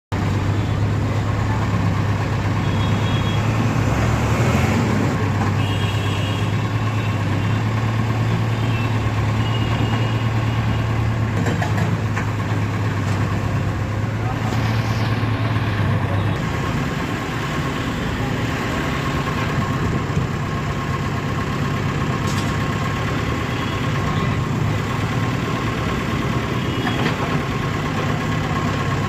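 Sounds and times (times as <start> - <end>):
diesel engine running: 0.1 - 29.0.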